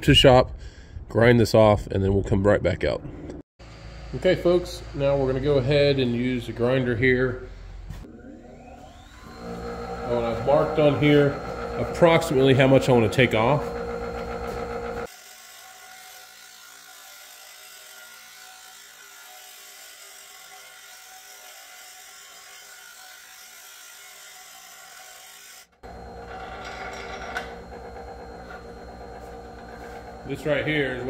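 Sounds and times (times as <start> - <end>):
grinder humming: 3.6 - 31.0
bench grinder grinding metal: 4.4 - 31.0.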